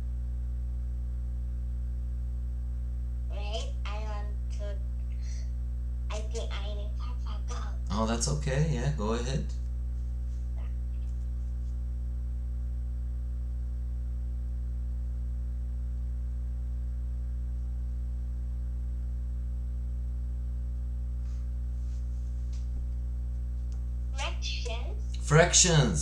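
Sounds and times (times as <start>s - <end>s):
low electrical hum with buzz: 0.0s - 26.0s.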